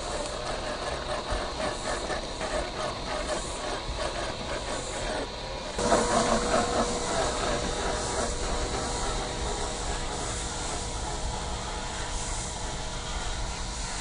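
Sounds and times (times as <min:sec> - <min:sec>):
electric motor whirring: 0:00.0 - 0:14.0
steady whine: 0:00.0 - 0:14.0.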